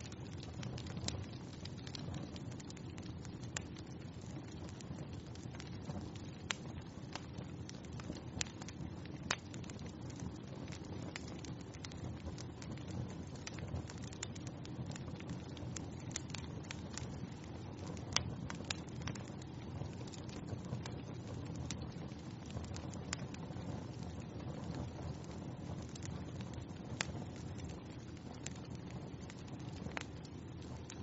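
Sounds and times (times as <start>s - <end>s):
fire popping: 0.0s - 31.0s
wood fire crackling: 0.0s - 31.0s.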